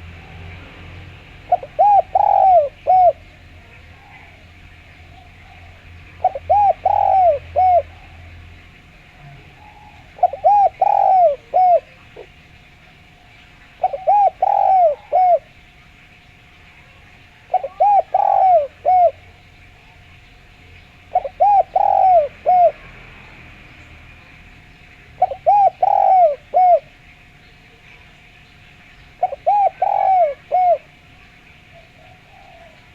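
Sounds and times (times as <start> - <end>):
dove cooing: 1.2 - 15.8, 16.8 - 23.0, 25.0 - 28.1, 29.1 - 32.9.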